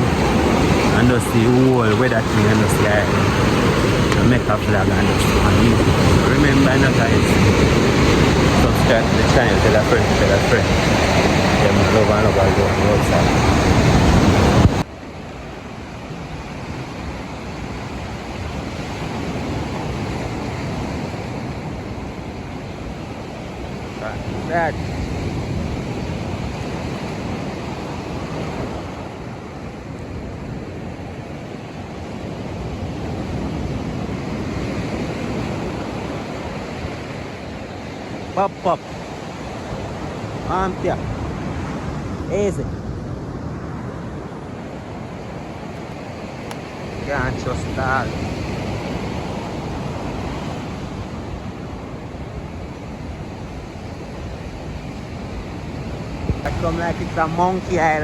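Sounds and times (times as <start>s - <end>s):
sea surf washing onto beach: 0.0s - 58.0s
wind on microphone: 0.0s - 58.0s.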